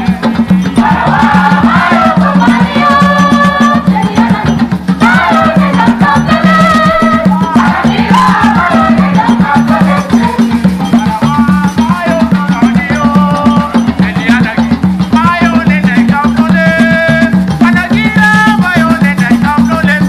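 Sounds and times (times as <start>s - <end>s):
group of voices singing: 0.0s - 20.0s
hand drums beating: 0.0s - 20.0s.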